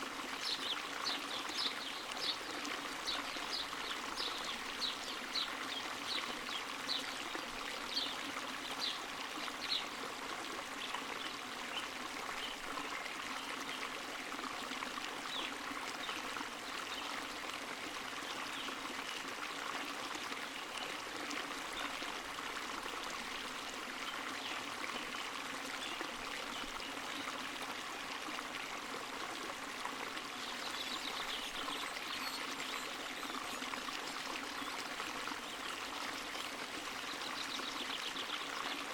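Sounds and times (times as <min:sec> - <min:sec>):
spring water trickling: 0:00.0 - 0:38.9.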